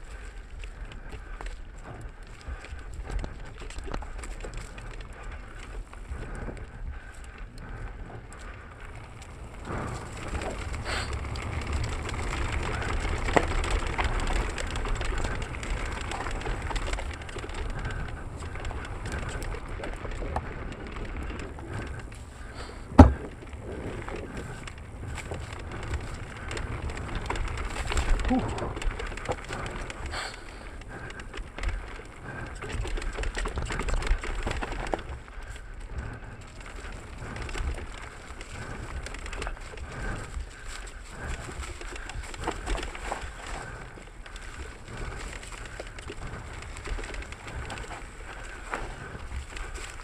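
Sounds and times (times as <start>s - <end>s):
bike chain and frame rattling: 0.0s - 50.0s
bike tyres on dirt: 0.0s - 50.0s
wind rumble: 0.0s - 50.0s.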